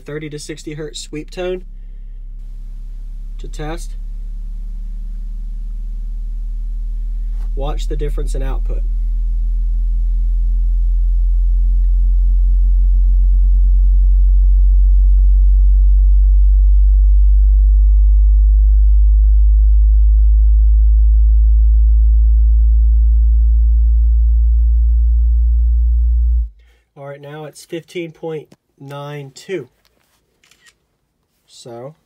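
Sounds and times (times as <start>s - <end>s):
deep rising sine sweep hum: 0.0s - 26.7s.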